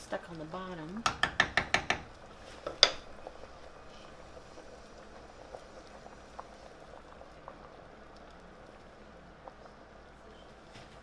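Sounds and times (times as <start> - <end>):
faint steady hiss: 0.0 - 11.0
soup bubbling at a simmer: 0.0 - 11.0.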